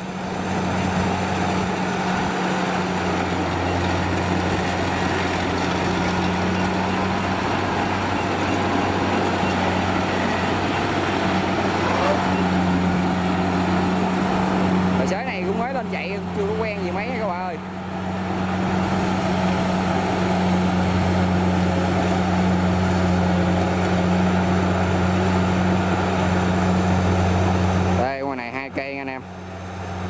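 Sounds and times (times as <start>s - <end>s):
diesel engine hum: 0.0s - 30.0s
harvester machinery noise: 0.0s - 30.0s.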